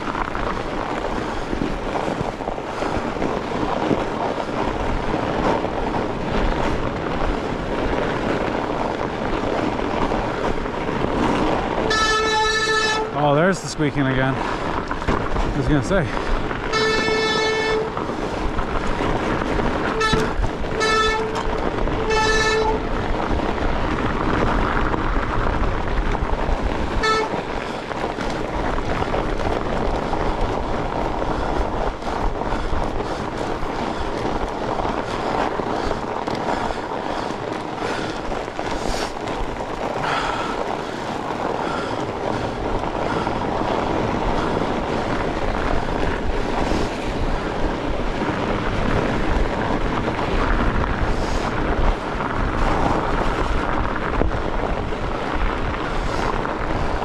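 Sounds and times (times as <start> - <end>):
bike squeaking: 0.0 - 47.0
bike riding noise: 0.0 - 57.0.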